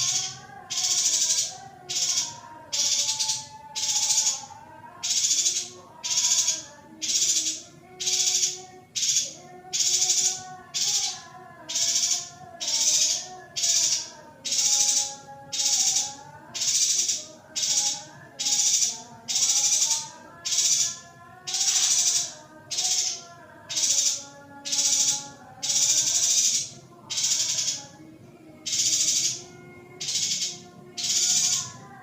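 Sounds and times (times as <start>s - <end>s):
buzzy rasping bird calls: 0.0s - 4.4s, 5.0s - 27.8s.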